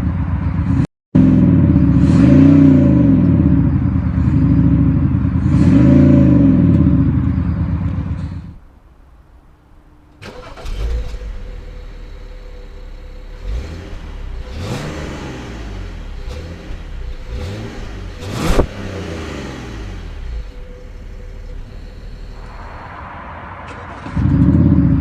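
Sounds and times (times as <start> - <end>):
car engine idling and revving: 0.0 - 25.0
car engine starting: 0.0 - 25.0.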